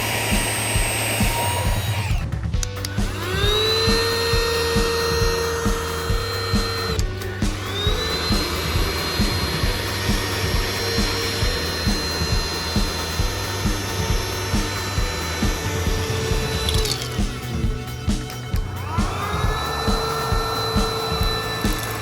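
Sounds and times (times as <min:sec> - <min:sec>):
background music with a beat: 0:00.0 - 0:22.0
vacuum cleaner motor whining: 0:00.0 - 0:22.0.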